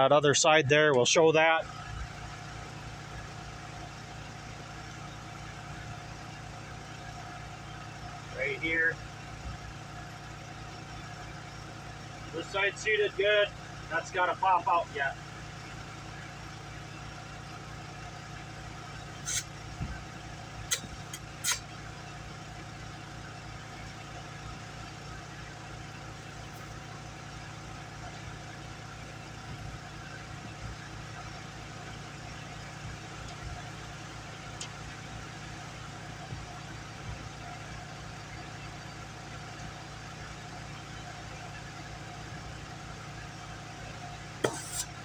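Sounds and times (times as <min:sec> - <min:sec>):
motor humming: 0:01.6 - 0:39.0, 0:43.8 - 0:45.0.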